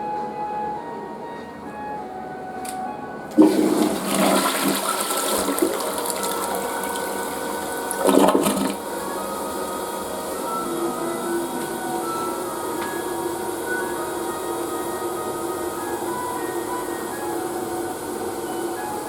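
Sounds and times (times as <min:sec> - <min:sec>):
toilet flushing: 0:03.3 - 0:19.0.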